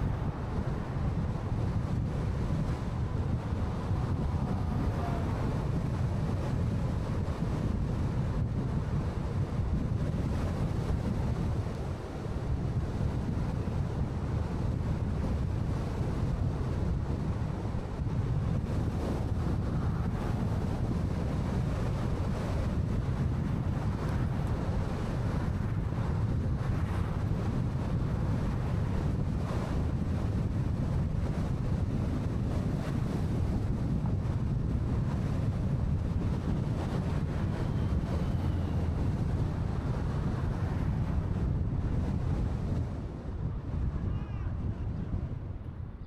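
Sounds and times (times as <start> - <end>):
car road and wind noise: 0.0 - 46.0.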